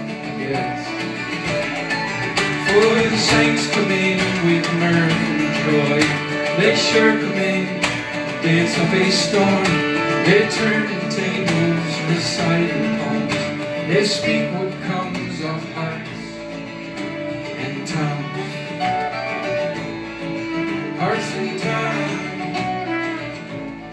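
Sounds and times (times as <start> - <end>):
acoustic guitar: 0.0 - 23.9
fiddle: 0.0 - 23.9
mandolin: 0.0 - 23.9
upright bass: 0.0 - 23.9.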